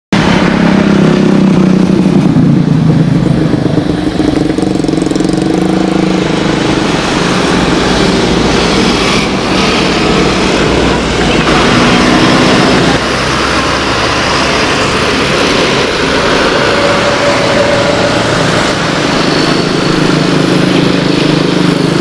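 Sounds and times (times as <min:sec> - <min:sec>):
jet engines roaring: 0:00.1 - 0:22.0.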